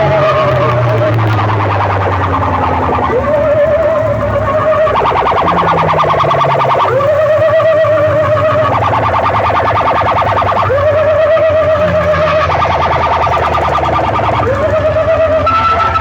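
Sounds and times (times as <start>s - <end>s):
electronic siren alarm effect: 0.0s - 16.0s.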